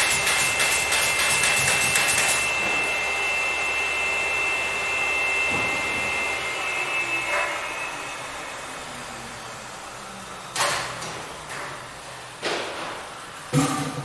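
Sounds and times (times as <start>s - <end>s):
power tool motor whining: 0.0s - 11.5s.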